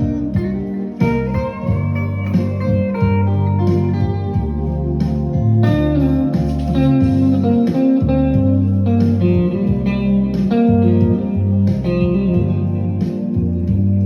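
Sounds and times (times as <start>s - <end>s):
bass line: 0.0s - 14.0s
bluesy guitar music: 0.0s - 14.0s.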